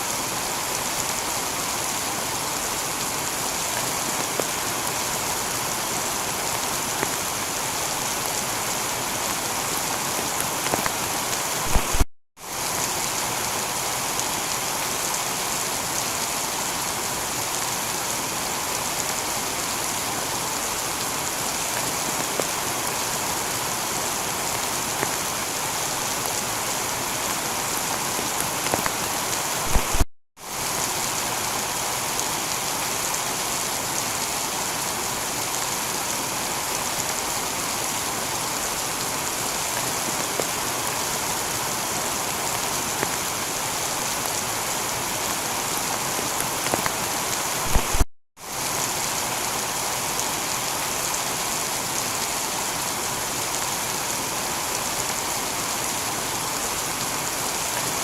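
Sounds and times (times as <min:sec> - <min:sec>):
heavy rain on a tiled roof: 0:00.0 - 0:58.0.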